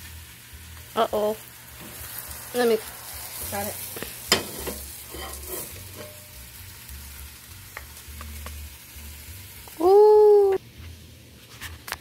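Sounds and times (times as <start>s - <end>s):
food sizzling in frying pan: 0.0s - 11.3s.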